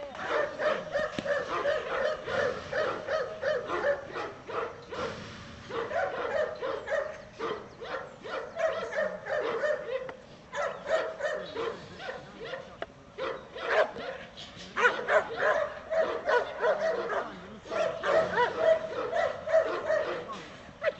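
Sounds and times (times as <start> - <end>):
dog barking rapidly: 0.2 - 20.9.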